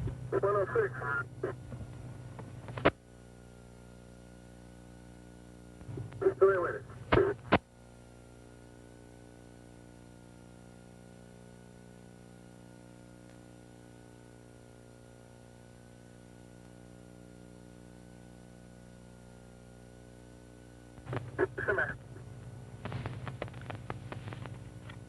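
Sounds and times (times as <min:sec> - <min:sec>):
low electrical hum: 0:00.0 - 0:25.0
faint high whine: 0:00.2 - 0:25.0.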